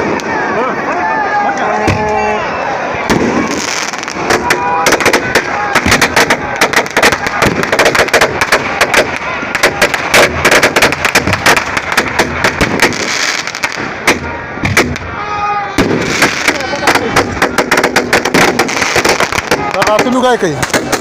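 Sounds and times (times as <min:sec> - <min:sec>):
firecrackers cracking and banging: 0:00.0 - 0:01.0, 0:03.0 - 0:21.0.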